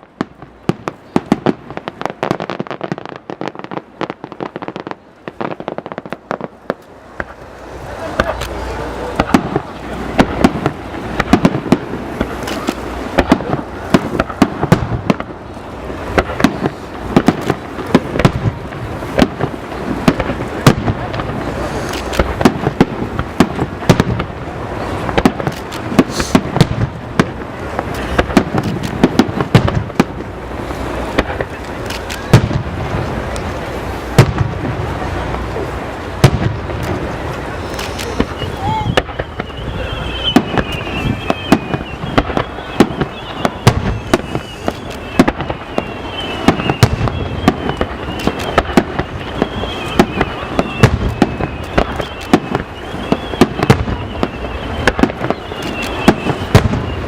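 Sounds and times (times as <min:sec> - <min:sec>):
fireworks bursting with bangs: 0:00.0 - 0:57.0
fireworks crackling: 0:00.0 - 0:57.0.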